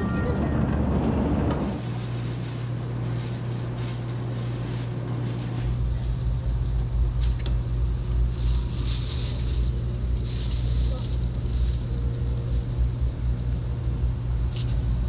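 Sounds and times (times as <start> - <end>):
train cabin hum and rumble: 0.0 - 15.0.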